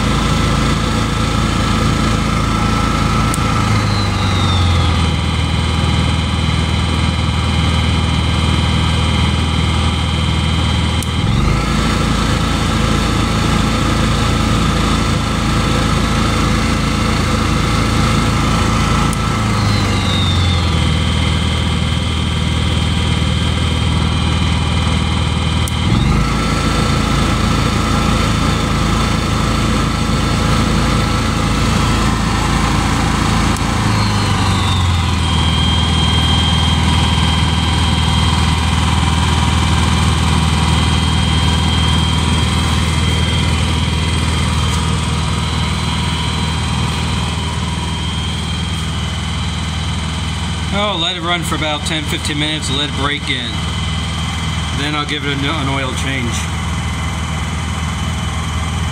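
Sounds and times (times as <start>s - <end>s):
generator engine running: 0.0s - 58.9s.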